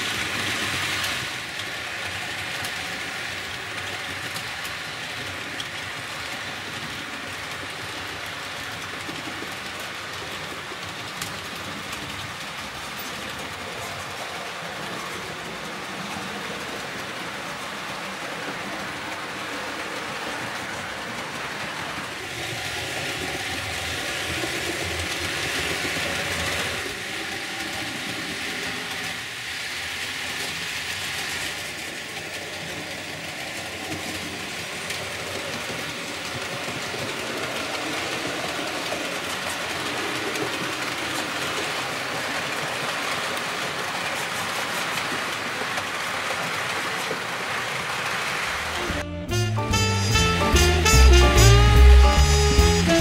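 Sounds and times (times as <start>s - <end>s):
model train wheels rolling on track: 0.0s - 49.0s.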